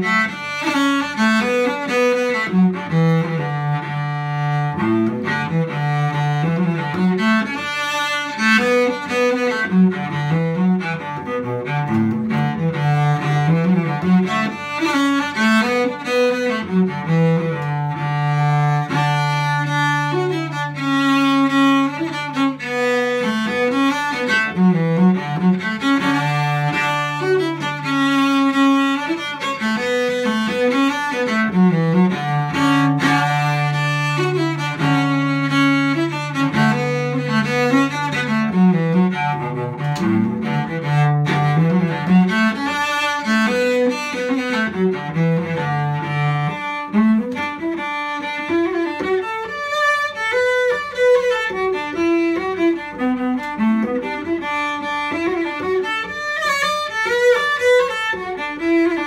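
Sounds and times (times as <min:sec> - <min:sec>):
solo cello melody over drone: 0:00.0 - 0:59.0.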